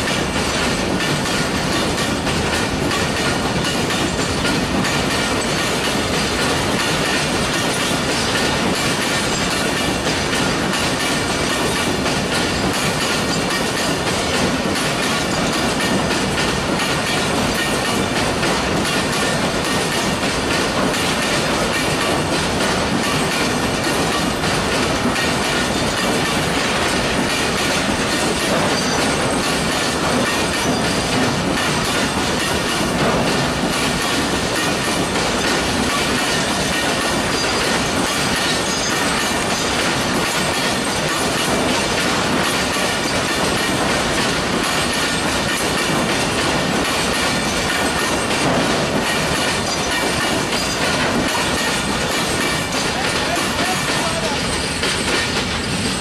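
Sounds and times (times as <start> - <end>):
steel wheels on rails: 0.0 - 56.0.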